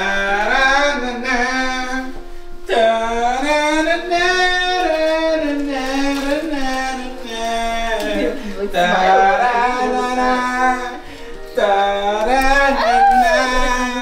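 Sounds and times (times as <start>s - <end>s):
song with sung vocals: 0.0s - 14.0s.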